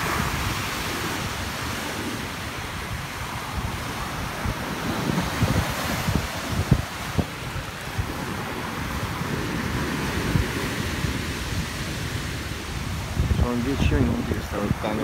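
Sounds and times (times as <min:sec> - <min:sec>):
sea surf breaking on shingle: 0:00.0 - 0:15.0
wind buffeting microphone: 0:00.0 - 0:15.0.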